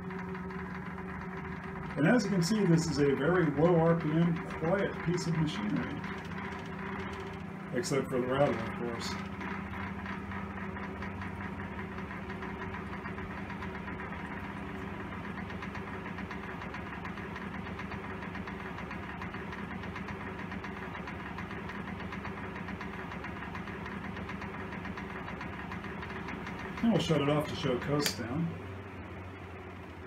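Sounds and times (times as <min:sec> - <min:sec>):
fan motor hum: 0:00.0 - 0:30.0
fan rotor rattling: 0:00.0 - 0:30.0.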